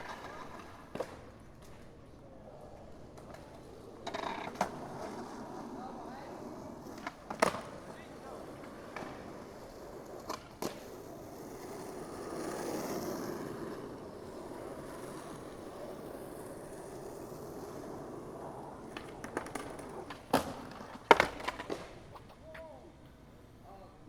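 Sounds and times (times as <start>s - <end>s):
skateboard clacking on ground: 0.0s - 23.2s
skateboard wheels rolling on concrete: 0.0s - 24.0s.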